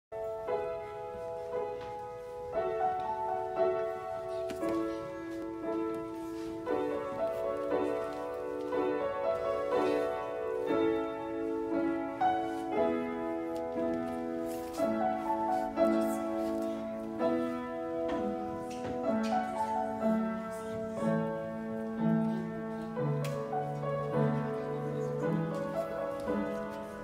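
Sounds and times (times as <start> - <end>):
upright piano playing: 0.1 - 27.0.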